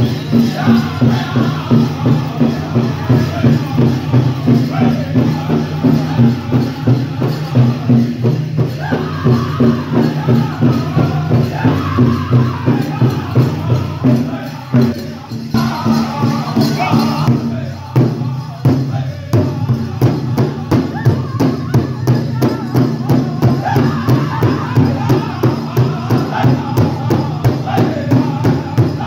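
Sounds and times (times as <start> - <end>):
group singing: 0.0 - 29.0
jingling of dancers' regalia: 0.0 - 29.0
large drum beaten steadily: 0.0 - 29.0.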